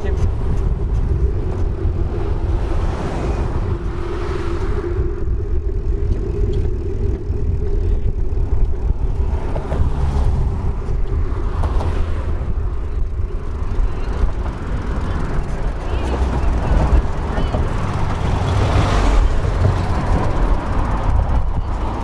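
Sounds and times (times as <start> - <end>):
cars passing: 0.0 - 22.0
wind rumble on microphone: 0.0 - 22.0.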